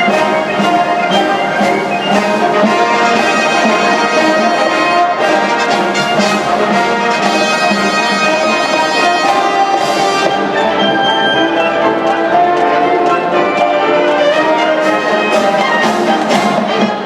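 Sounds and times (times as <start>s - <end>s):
brass holding loud chords: 0.0s - 17.0s
marching drums: 0.0s - 17.0s.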